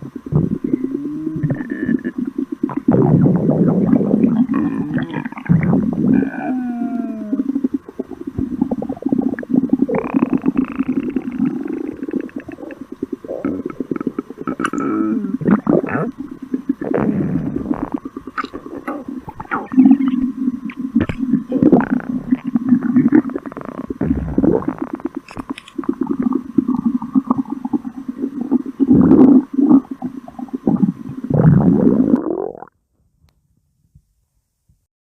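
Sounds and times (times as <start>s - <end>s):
stomach growling: 0.0s - 32.8s.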